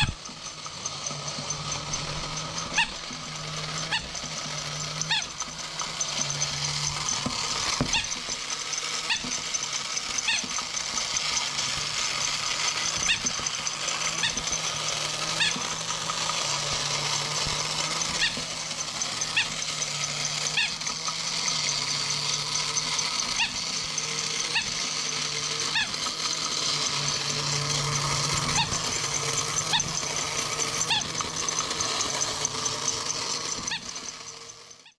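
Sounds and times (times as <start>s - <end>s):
mechanical clicks: 0.0s - 34.8s
toy motor and gears whirring: 0.0s - 34.9s.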